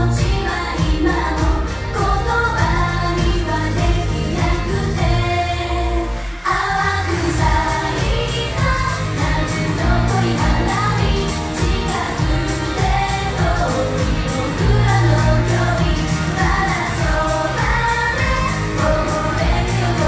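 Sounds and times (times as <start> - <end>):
female voices singing: 0.0 - 20.0
upbeat pop backing track: 0.0 - 20.0.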